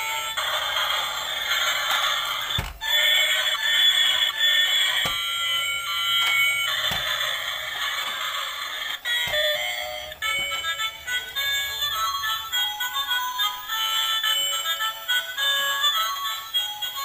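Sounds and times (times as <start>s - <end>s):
tinny electronic toy melody: 0.0s - 17.0s.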